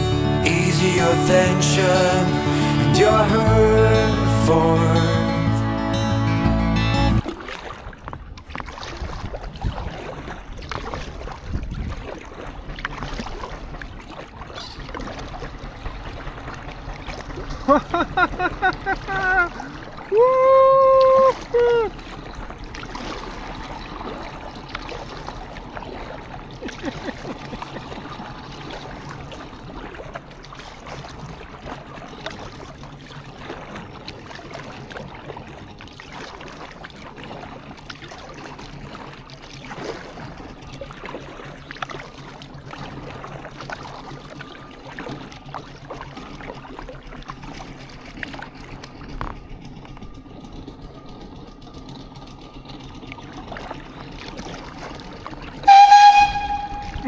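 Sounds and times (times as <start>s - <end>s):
moving river water: 0.0s - 57.0s
paddle splashing water: 0.0s - 57.0s.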